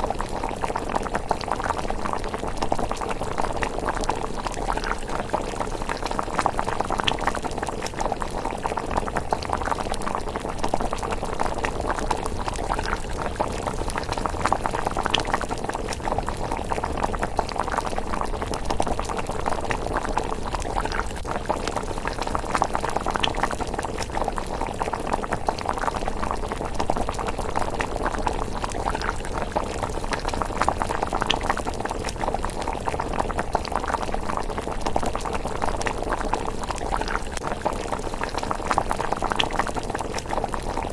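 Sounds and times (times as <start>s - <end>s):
thick porridge bubbling: 0.0s - 40.9s.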